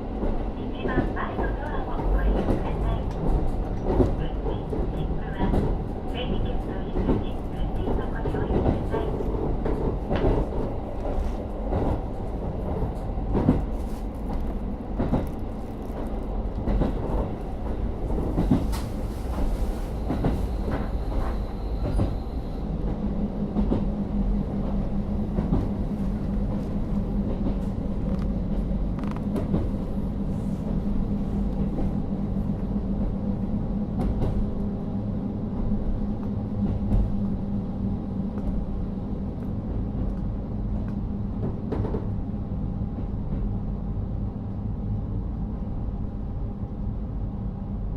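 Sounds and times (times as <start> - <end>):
train wheels rumbling over track: 0.0 - 47.9.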